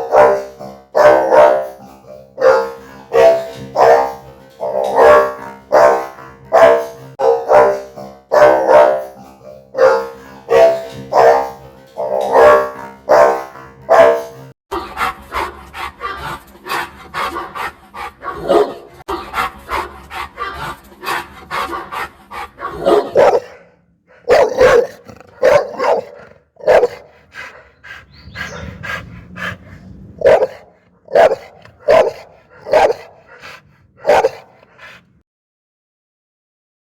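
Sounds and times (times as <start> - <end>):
dog barking aggressively: 0.0 - 14.4, 16.0 - 19.6, 20.3 - 27.7, 28.4 - 35.0.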